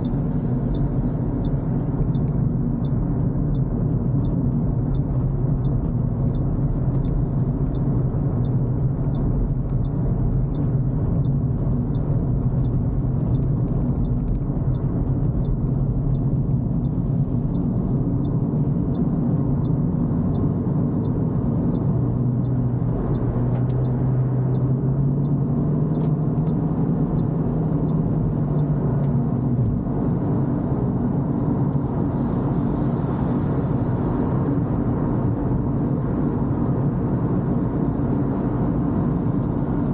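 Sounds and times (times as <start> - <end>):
car engine and road rumble: 0.0 - 39.9
light regular ticking: 0.0 - 39.9.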